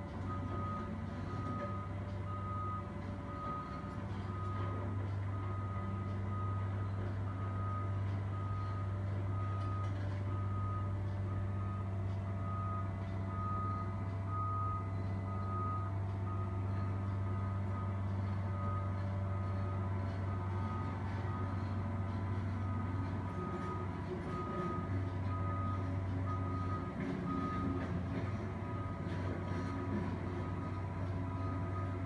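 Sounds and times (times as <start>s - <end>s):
heavy diesel engine running: 0.0s - 32.0s
reversing alarm beeping: 0.3s - 32.0s.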